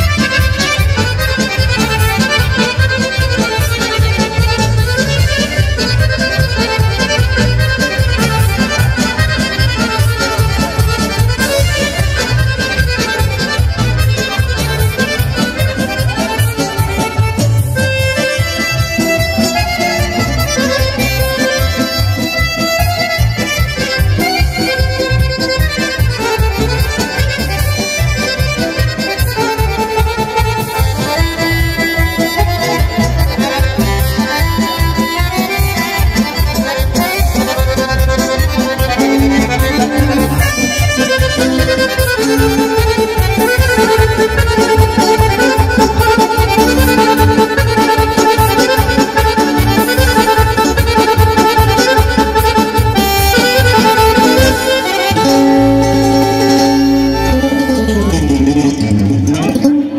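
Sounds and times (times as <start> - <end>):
accordion folk dance music: 0.0 - 59.9.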